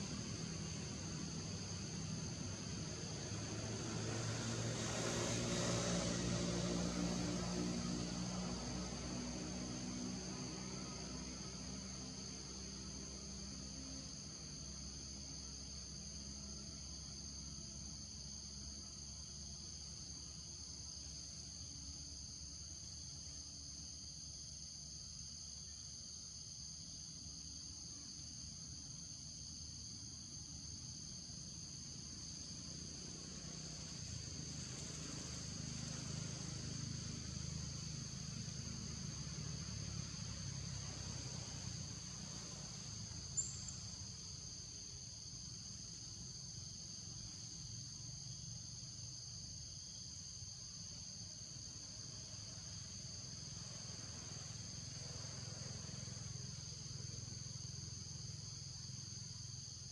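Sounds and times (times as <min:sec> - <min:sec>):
insect chorus drone: 0:00.0 - 0:59.9.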